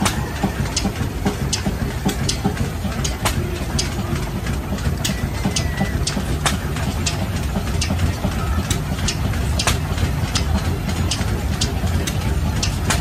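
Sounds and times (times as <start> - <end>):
sharp clacks: 0.0 - 13.0
stationary engine throbbing: 0.0 - 13.0.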